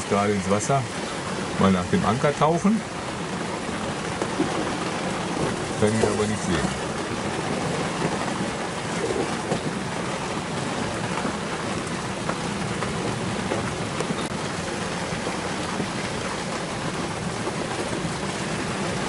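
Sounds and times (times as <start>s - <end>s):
storm wind and rain over water: 0.0s - 19.0s.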